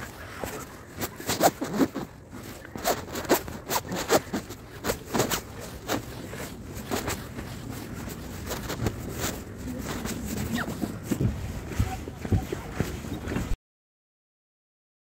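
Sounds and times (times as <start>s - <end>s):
footsteps scuffing on a trail: 0.0s - 13.6s.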